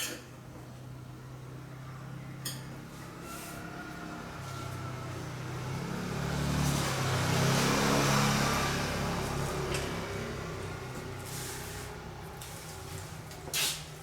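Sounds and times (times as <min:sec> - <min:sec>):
motor vehicle passing: 0:01.2 - 0:13.9.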